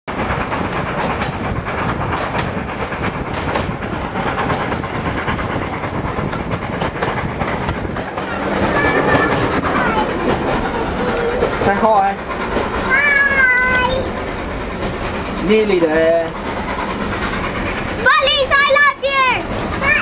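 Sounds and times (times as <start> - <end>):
train running noise: 0.1 - 20.0
wheels clattering over rails: 0.1 - 20.0.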